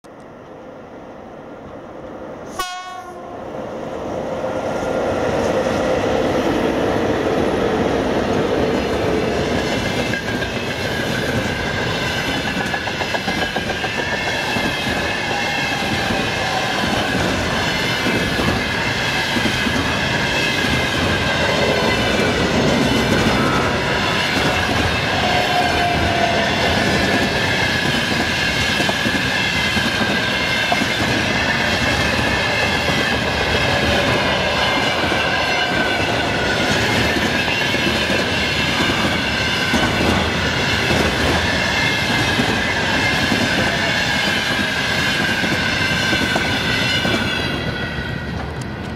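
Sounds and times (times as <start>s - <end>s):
freight train passing: 0.0s - 48.9s.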